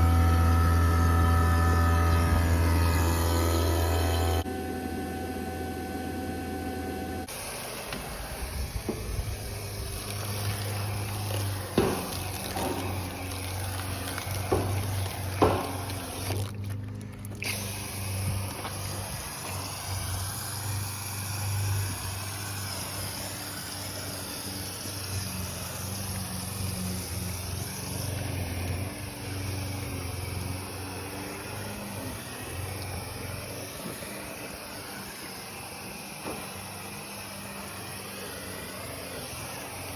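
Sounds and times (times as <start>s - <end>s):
machine humming: 0.0s - 39.9s.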